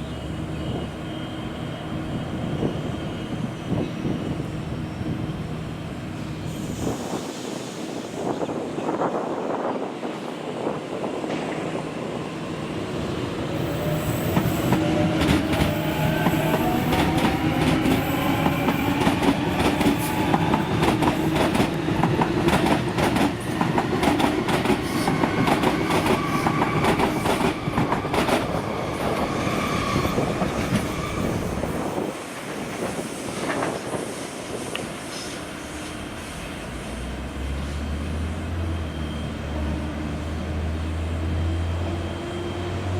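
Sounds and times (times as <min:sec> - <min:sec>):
freight train rumbling: 0:00.0 - 0:42.9.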